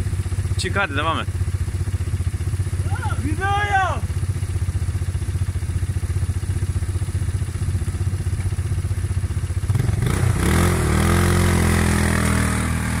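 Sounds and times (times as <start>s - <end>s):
quad engine idling and revving: 0.0s - 13.0s.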